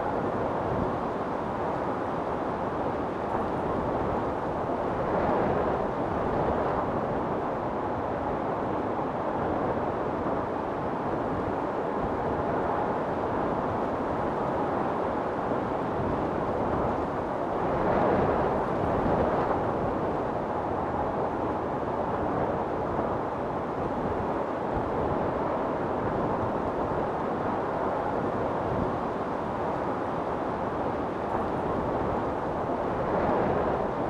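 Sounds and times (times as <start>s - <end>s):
strong wind blowing in gusts: 0.0s - 34.0s.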